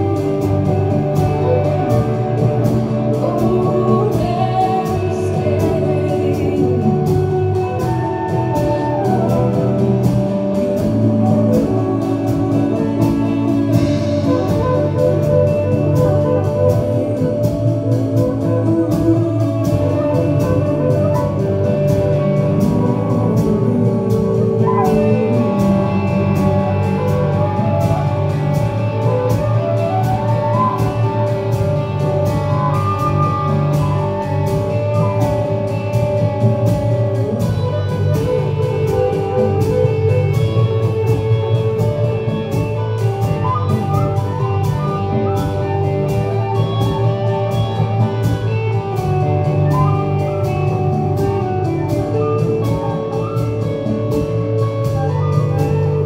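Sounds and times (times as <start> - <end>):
bass guitar: 0.0 - 56.0
drums: 0.0 - 56.0
flute: 0.0 - 56.0.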